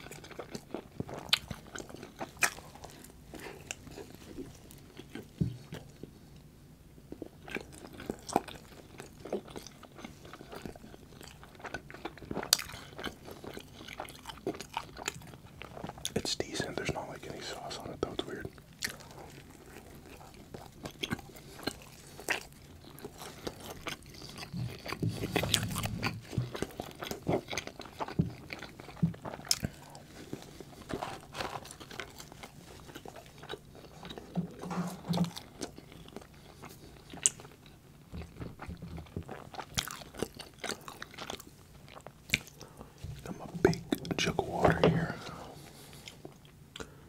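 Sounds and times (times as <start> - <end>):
chewing a sandwich: 0.0 - 47.0.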